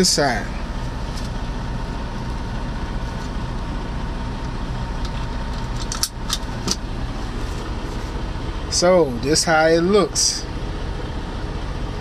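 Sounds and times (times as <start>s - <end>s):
truck idling: 0.0s - 12.0s.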